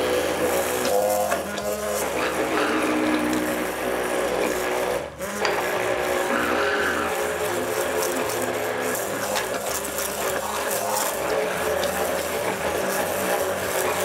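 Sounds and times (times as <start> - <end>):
immersion blender motor: 0.0 - 14.0.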